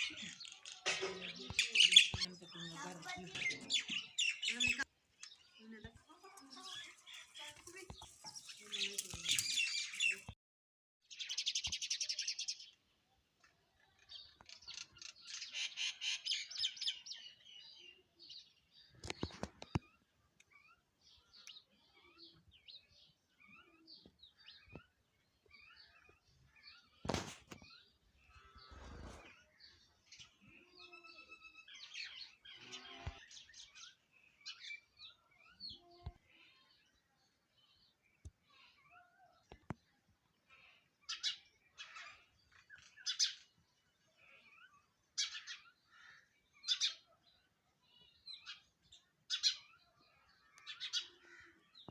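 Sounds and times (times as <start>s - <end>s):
small songbirds chirping: 0.0s - 10.4s, 11.0s - 51.9s.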